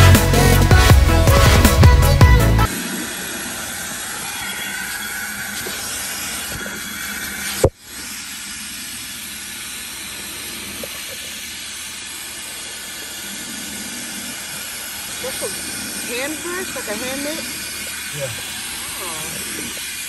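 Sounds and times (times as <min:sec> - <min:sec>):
vacuum cleaner running: 0:02.7 - 0:20.0.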